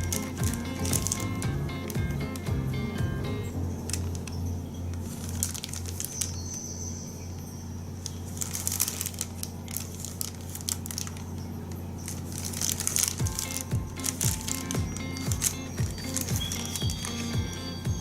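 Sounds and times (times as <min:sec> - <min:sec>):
plastic packaging crinkling: 0:00.0 - 0:02.6, 0:03.6 - 0:18.0.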